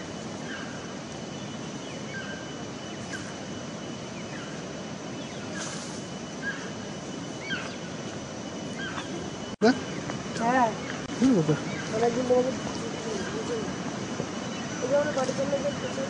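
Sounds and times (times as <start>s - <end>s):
faint steady high hum: 0.0s - 16.0s
steady noisy rush: 0.0s - 16.0s.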